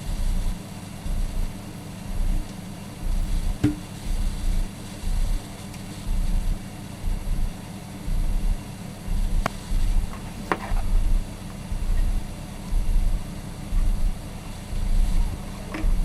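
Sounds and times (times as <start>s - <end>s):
rhythmic low handling rumble: 0.0s - 16.0s.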